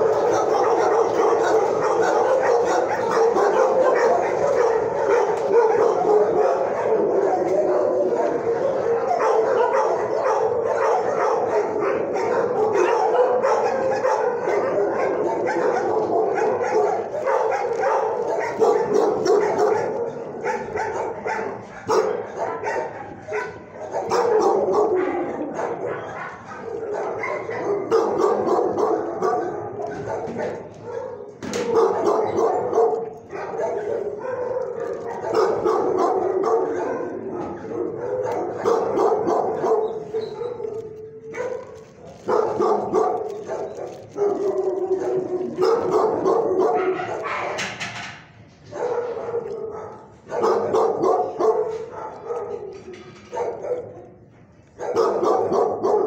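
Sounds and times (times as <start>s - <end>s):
many dogs barking: 0.0s - 56.0s.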